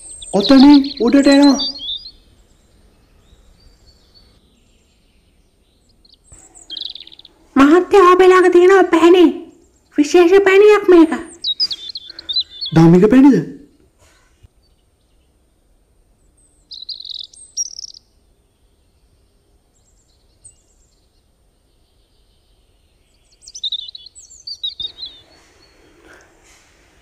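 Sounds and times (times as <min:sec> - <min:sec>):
small birds chirping: 0:00.0 - 0:27.0
soft hiss of noise: 0:00.0 - 0:27.0.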